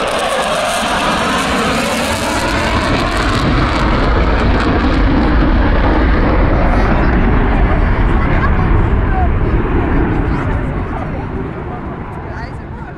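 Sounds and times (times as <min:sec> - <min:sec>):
jet engines roaring past: 0:00.0 - 0:12.9.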